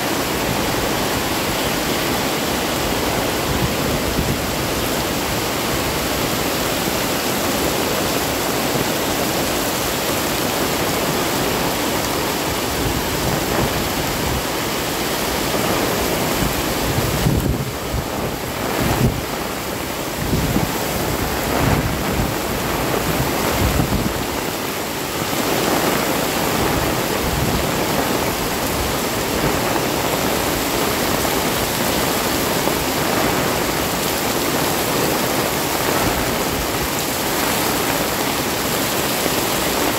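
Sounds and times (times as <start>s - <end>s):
heavy rain pouring: 0.0s - 39.9s
wind buffeting microphone: 0.1s - 39.9s.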